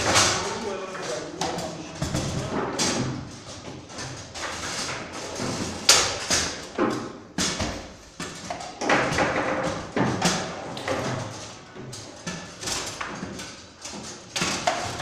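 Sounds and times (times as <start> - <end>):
table football knocks and clacks: 1.3 - 15.0.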